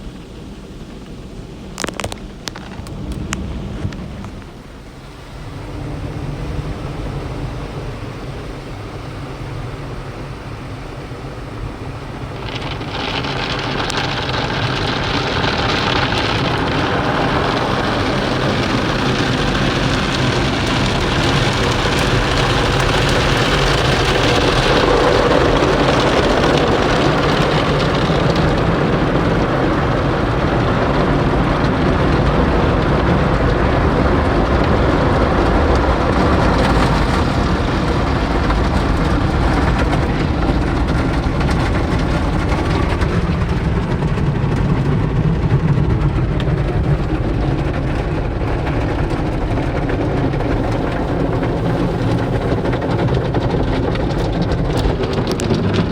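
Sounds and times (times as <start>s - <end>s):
car wash equipment rushing: 0.0s - 55.9s.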